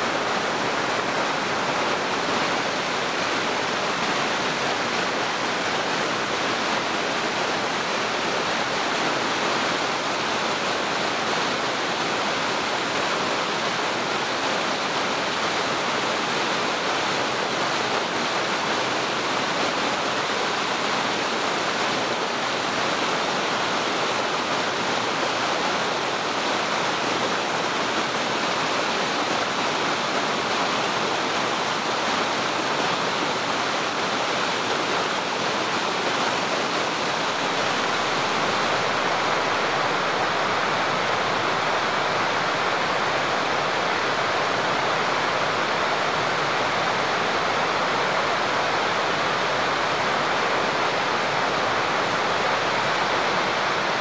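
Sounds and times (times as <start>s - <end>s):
waterfall and rapids rushing: 0.0s - 54.0s.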